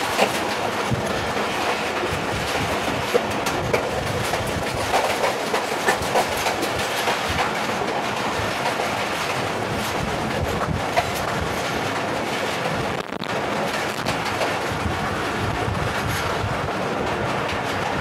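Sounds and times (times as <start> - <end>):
train carriage rumble and rattle: 0.0 - 18.0
wheels clicking on track: 0.0 - 18.0.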